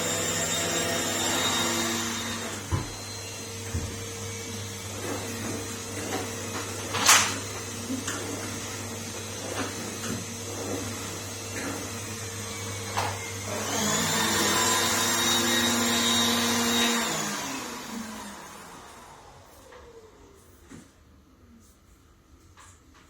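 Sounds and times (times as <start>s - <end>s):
vacuum cleaner running: 0.0s - 21.1s.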